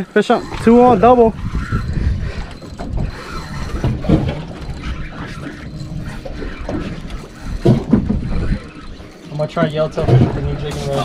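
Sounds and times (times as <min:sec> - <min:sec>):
fishing reel whirring and clicking: 0:00.0 - 0:10.0.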